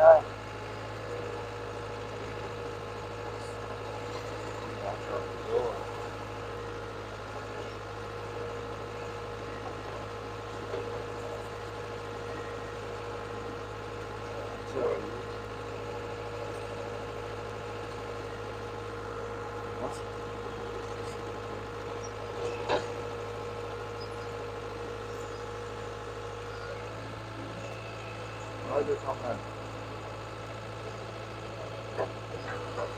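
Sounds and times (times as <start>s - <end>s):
diesel engine running steadily: 0.0s - 32.9s.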